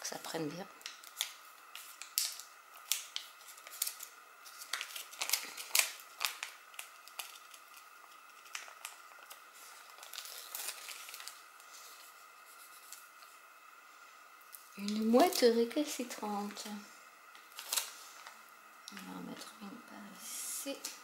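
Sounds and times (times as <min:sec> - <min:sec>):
sticker backing crinkling: 0:00.0 - 0:13.4, 0:14.5 - 0:19.5.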